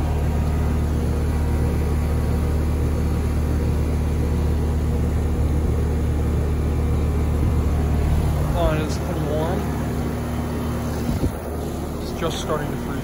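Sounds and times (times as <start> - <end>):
heat pump humming: 0.0 - 13.0.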